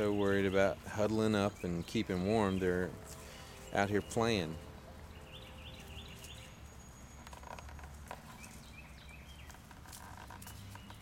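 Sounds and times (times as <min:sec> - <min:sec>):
faint bird chirping: 0:00.0 - 0:11.0
puppy paws rustling in dry grass: 0:00.0 - 0:11.0.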